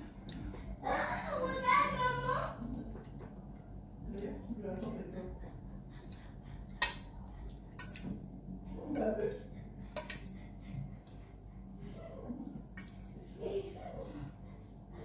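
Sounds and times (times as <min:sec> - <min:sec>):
soft eating sounds: 0:00.0 - 0:15.0.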